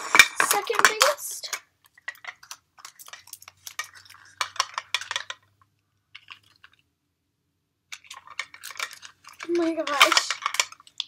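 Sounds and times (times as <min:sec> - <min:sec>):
plastic packaging clicks and crinkles: 0:00.0 - 0:06.9, 0:07.9 - 0:11.0.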